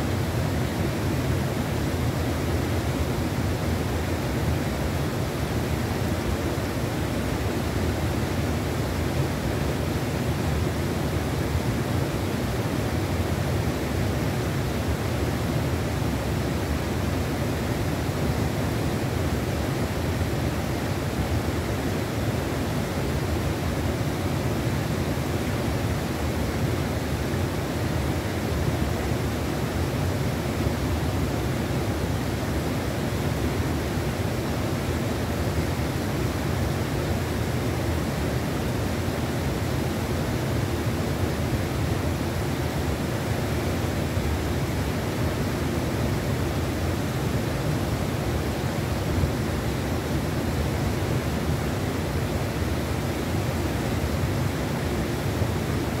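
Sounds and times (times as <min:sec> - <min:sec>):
fast-flowing river rushing: 0:00.0 - 0:56.0.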